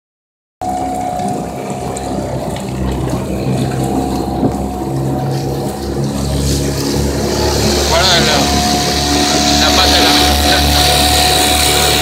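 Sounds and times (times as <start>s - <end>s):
outboard motor running: 0.6s - 12.0s
water splashing against hull: 0.6s - 12.0s.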